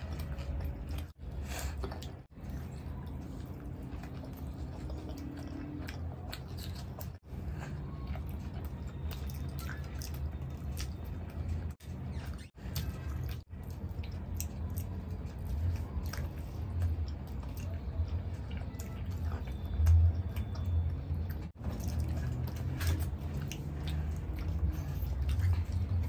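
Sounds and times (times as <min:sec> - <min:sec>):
chewing: 0:00.0 - 0:26.0
fingers squishing through gravy: 0:00.0 - 0:26.0.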